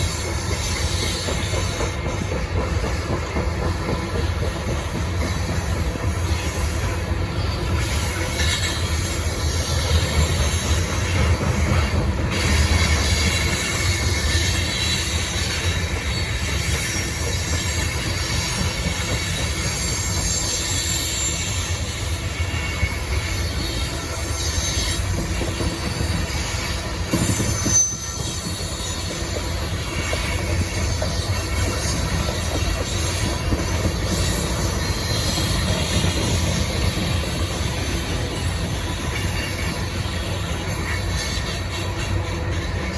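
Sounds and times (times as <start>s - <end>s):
train wheels rumbling on rail: 0.0s - 42.9s
high wheel squeal: 5.3s - 42.9s.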